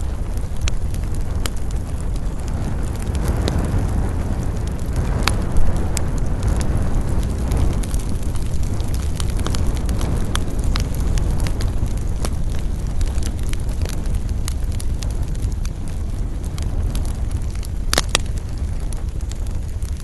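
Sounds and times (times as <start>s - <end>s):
low rumble: 0.0s - 20.0s
sharp pops of fire: 0.0s - 20.0s
wood fire crackling: 0.0s - 20.0s.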